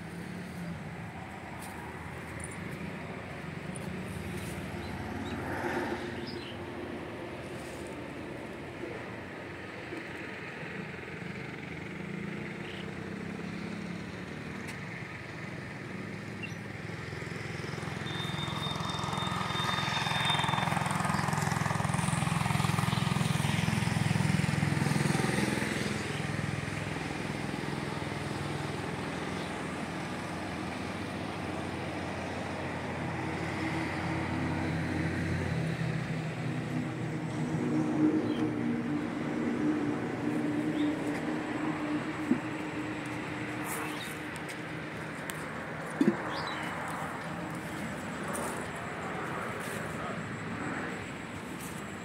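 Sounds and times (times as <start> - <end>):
vehicle engine humming: 0.0 - 52.0.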